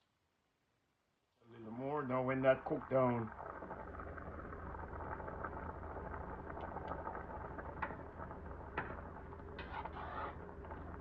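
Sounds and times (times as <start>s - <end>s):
stew bubbling and crackling: 1.6s - 11.0s.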